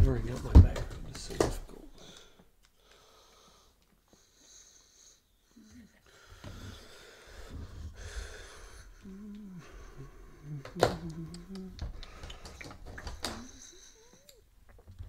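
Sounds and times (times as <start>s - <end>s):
faint breathing: 1.8s - 14.5s.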